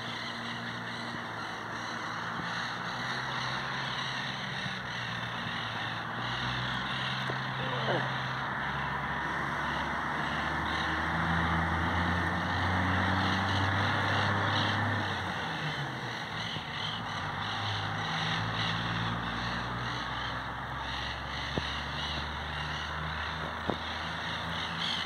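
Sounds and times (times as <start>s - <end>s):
parakeets chattering: 0.0s - 11.5s, 12.3s - 25.0s
vehicle engine humming: 0.0s - 25.0s.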